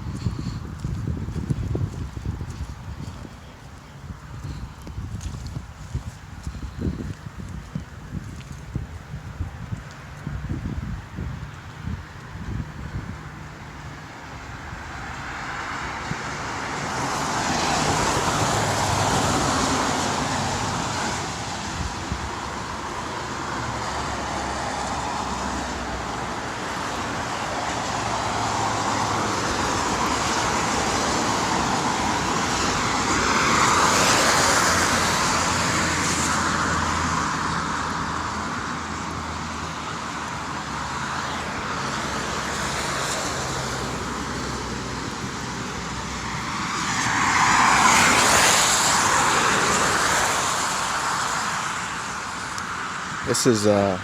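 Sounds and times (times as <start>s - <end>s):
cars passing on wet road: 0.0s - 54.0s.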